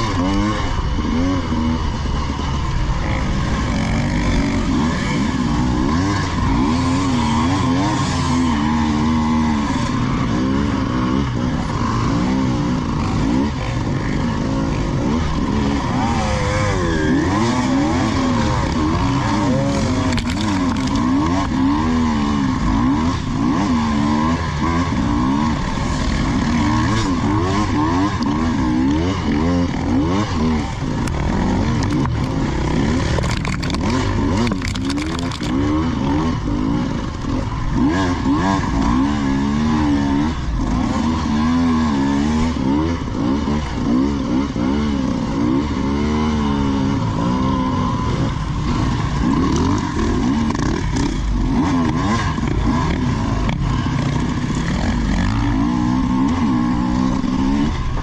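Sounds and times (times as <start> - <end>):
constant rushing noise: 0.0 - 58.0
vehicle engine revving: 0.0 - 58.0.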